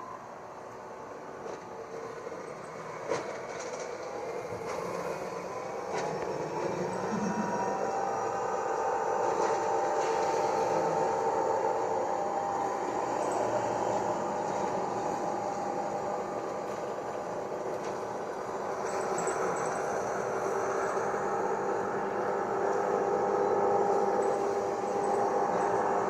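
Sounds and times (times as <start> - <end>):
bus air conditioning hum: 0.0 - 26.0.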